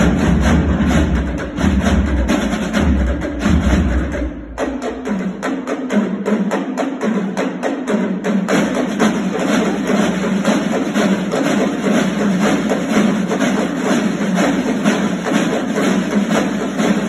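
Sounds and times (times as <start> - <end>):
snare drums playing: 0.0 - 17.0.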